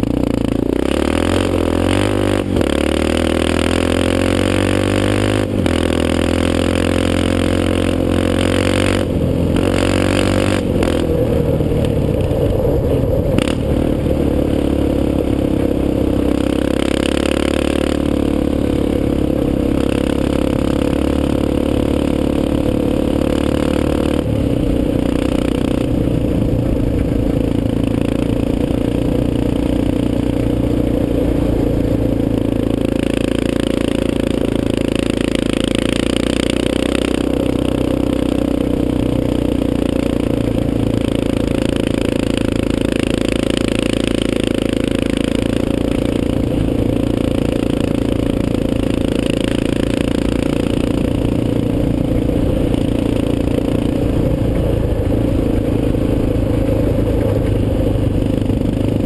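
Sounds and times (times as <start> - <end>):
quad engine running: 0.0 - 59.0.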